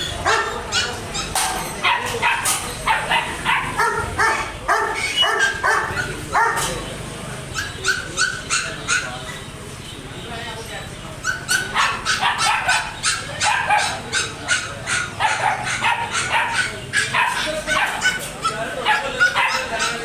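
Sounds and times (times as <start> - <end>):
dog barking loudly: 0.0 - 6.8, 7.4 - 9.5, 11.2 - 20.0.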